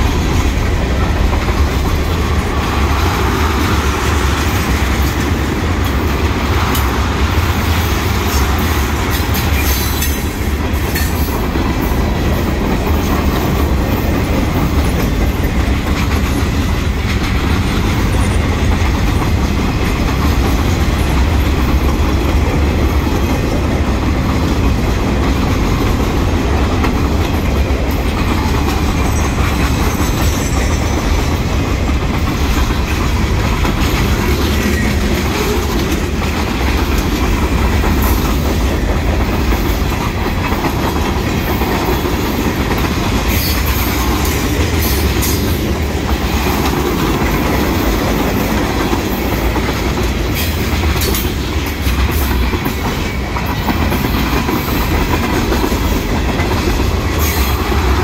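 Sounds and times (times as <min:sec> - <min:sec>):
train wheels rumbling on rail: 0:00.0 - 0:58.0
wheels clicking and clanking on track: 0:00.0 - 0:58.0.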